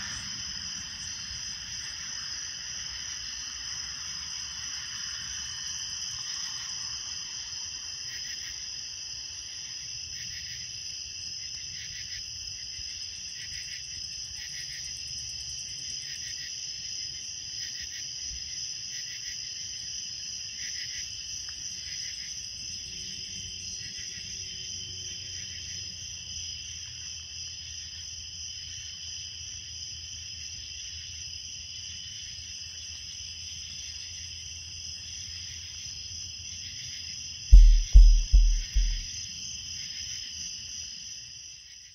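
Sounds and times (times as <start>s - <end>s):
insect pulsed call: 0.0s - 29.0s, 32.1s - 41.0s
crickets trilling: 0.0s - 41.9s.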